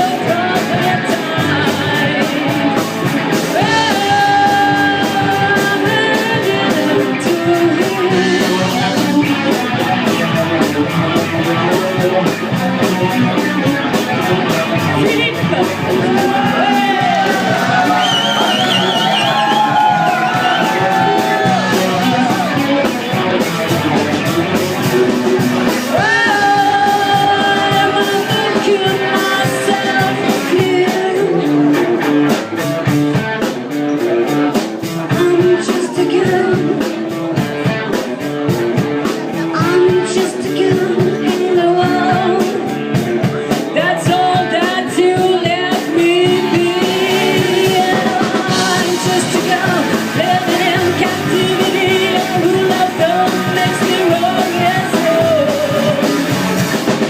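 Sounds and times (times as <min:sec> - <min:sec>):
person singing: 0:00.0 - 0:32.4, 0:34.0 - 0:57.0
drums: 0:00.0 - 0:57.0
electric guitar: 0:00.0 - 0:57.0.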